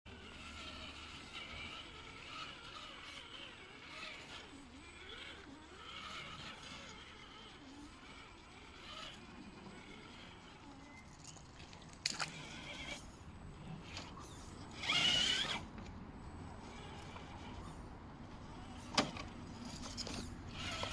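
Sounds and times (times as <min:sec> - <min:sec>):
electric motor whining: 0:00.1 - 0:11.2, 0:12.1 - 0:20.9.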